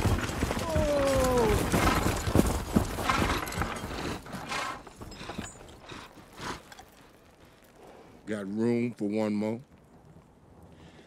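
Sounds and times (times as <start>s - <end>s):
harness and coach rattling: 0.0s - 10.3s
hooves clopping on snow: 0.0s - 11.0s.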